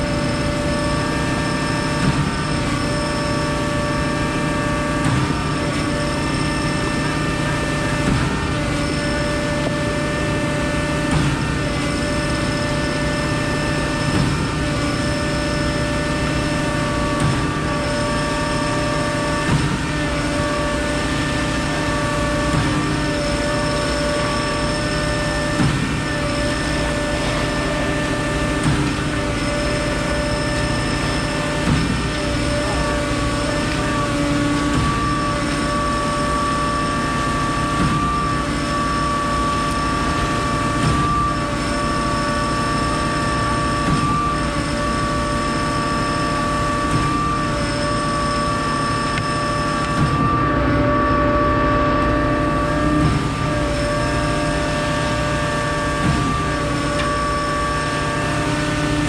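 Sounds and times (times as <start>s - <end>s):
high hydraulic whine: 0.0s - 59.0s
pump truck engine drone: 0.0s - 59.0s.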